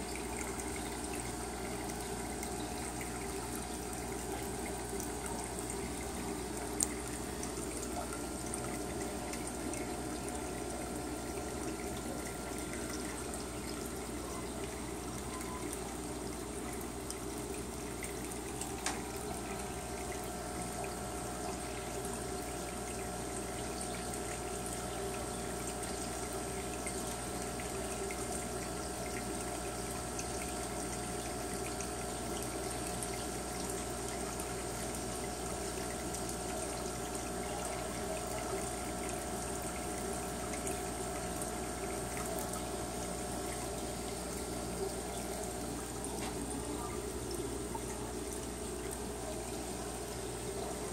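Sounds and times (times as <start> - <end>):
faint steady hum: 0.0 - 50.9
trickling aquarium water: 0.0 - 50.9.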